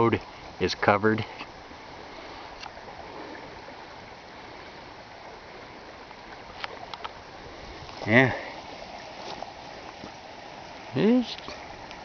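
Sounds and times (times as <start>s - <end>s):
flood water running over gravel: 0.0s - 12.0s.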